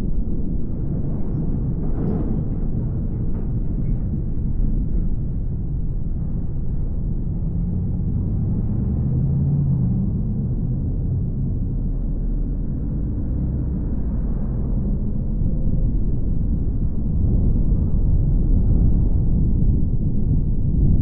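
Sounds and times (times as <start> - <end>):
car road and engine rumble: 0.0 - 21.0
faint engine hum: 0.0 - 21.0.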